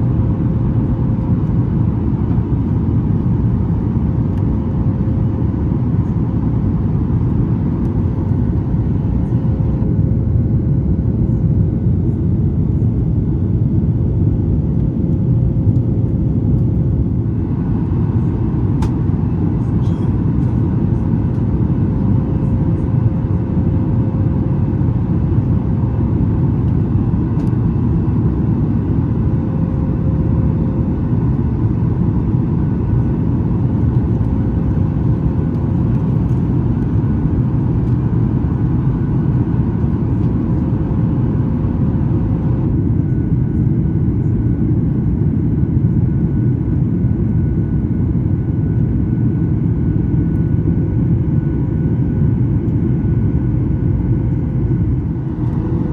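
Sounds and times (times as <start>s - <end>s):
airplane cabin roar: 0.0s - 55.9s.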